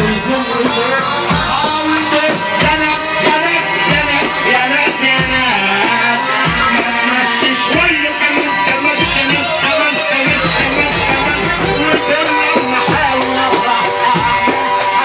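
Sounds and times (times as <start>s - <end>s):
melody with sliding notes: 0.0s - 15.0s
steady drum beat: 0.0s - 15.0s.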